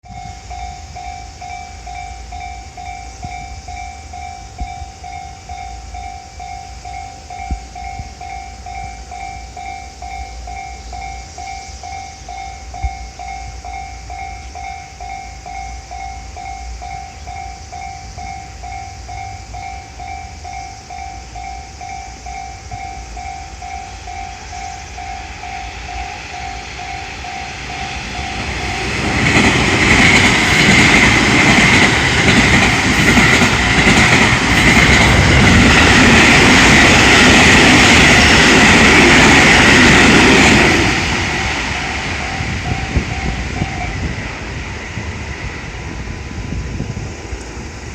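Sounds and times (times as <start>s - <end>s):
level-crossing alarm bell ringing: 0.0s - 45.3s
electric train approaching: 0.0s - 47.9s.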